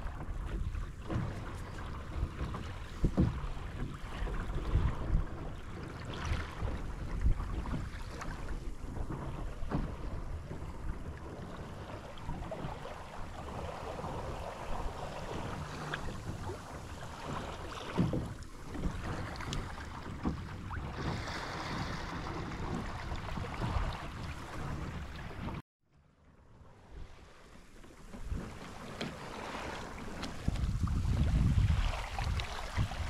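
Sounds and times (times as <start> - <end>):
wind buffeting microphone: 0.0 - 25.6, 28.1 - 33.0
water lapping against hull: 0.0 - 33.0.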